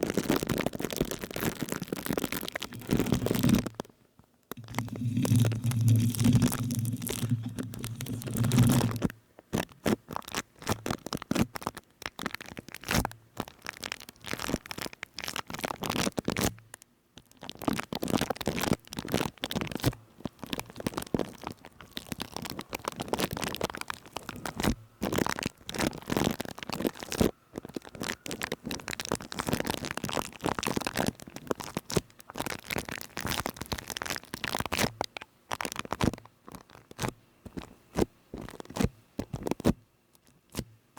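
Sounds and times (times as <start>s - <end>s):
crackling and scratching at microphone: 0.0s - 40.9s.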